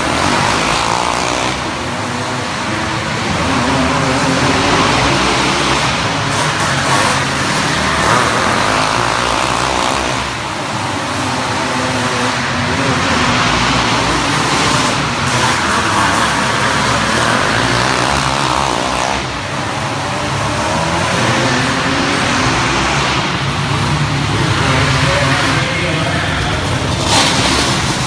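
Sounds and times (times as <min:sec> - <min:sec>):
race car engines: 0:00.0 - 0:28.0.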